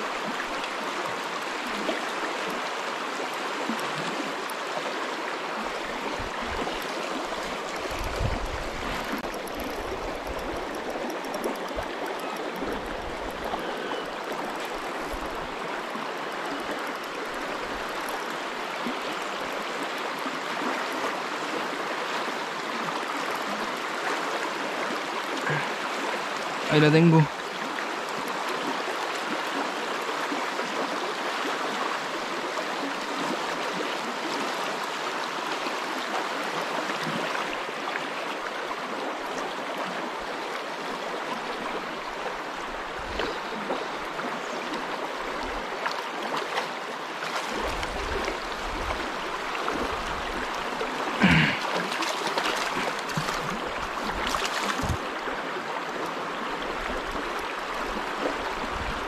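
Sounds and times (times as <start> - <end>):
river water running over stones: 0.0 - 59.0.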